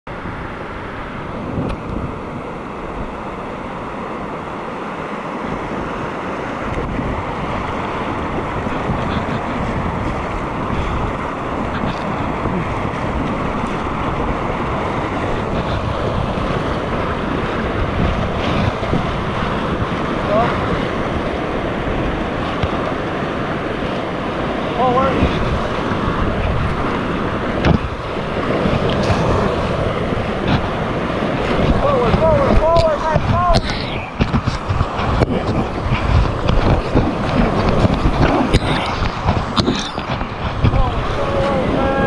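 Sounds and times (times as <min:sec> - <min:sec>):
whitewater rapids rushing: 0:00.1 - 0:42.0
wind buffeting microphone: 0:00.1 - 0:42.0
paddle strokes splashing: 0:00.2 - 0:42.0.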